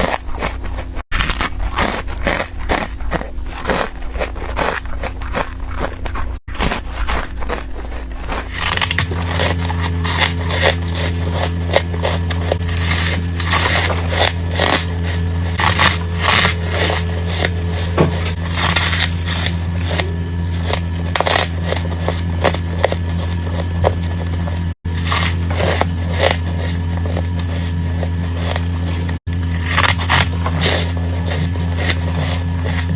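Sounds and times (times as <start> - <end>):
squeaky crispy crunches: 0.0 - 32.9
steady low hum: 0.0 - 32.9.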